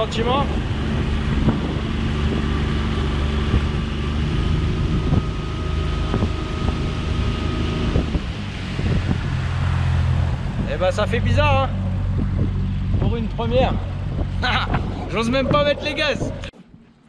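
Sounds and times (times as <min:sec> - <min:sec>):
outboard motor running: 0:00.0 - 0:16.8
wind on microphone: 0:00.0 - 0:17.0.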